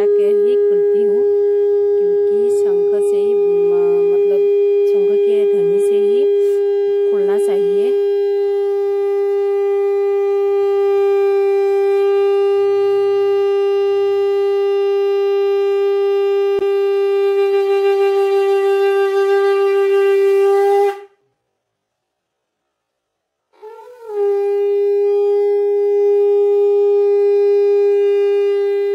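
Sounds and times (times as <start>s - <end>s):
conch shell blown in a long note: 0.0s - 21.2s, 23.5s - 28.9s.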